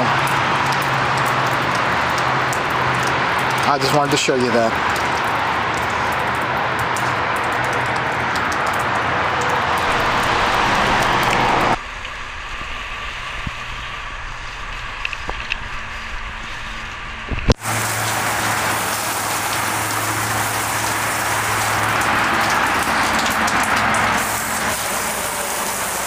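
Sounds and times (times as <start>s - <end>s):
low engine hum: 0.0s - 26.0s
water spraying onto awning: 0.0s - 26.0s.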